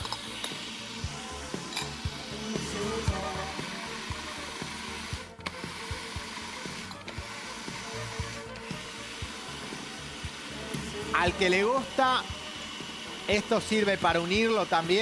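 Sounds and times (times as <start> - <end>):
food processor motor grinding: 0.0 - 15.0.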